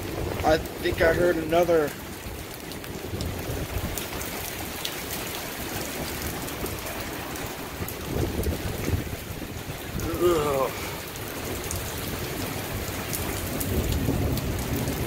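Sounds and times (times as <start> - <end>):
rain falling: 0.0 - 15.0
wind gusting: 0.0 - 15.0.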